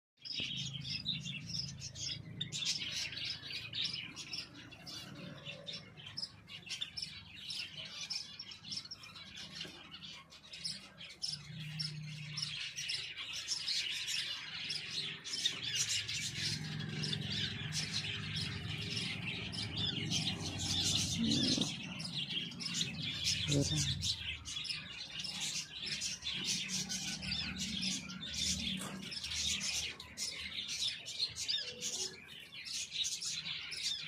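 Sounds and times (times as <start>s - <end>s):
birds chirping: 0.2s - 34.0s.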